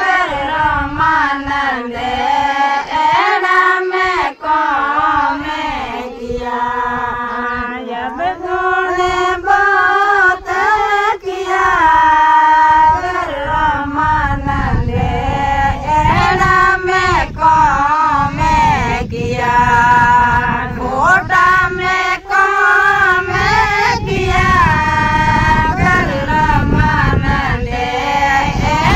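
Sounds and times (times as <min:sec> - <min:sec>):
group of women singing: 0:00.0 - 0:28.9.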